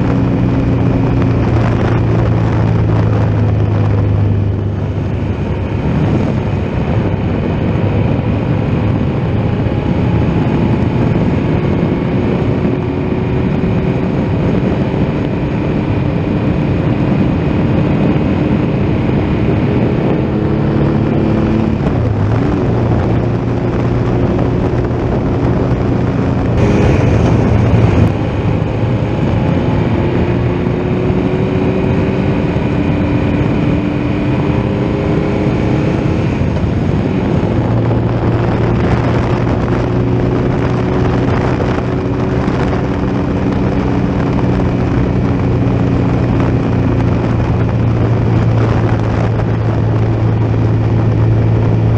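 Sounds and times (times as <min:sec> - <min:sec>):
motorcycle engine running: 0:00.0 - 0:51.9
wind rush on microphone: 0:00.0 - 0:51.9.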